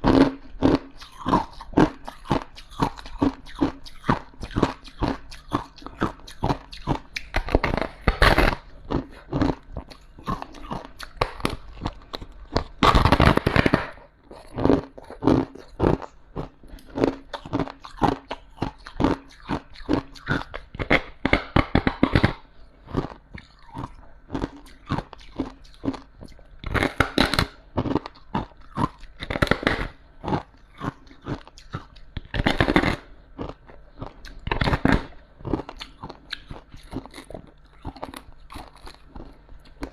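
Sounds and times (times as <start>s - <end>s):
crunchy chewing of ice: 0.0s - 39.9s.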